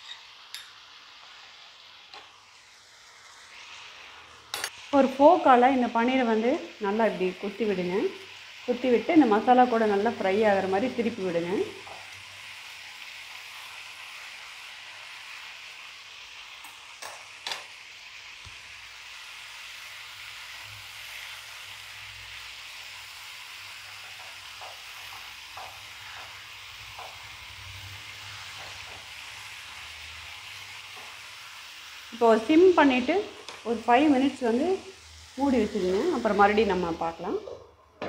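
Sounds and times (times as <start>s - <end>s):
food sizzling in a frying pan: 0.0s - 38.0s.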